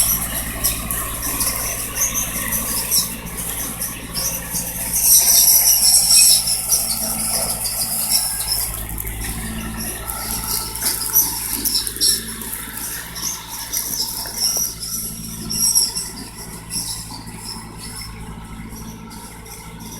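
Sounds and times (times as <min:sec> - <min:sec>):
pruning machine engine humming: 0:00.0 - 0:19.9.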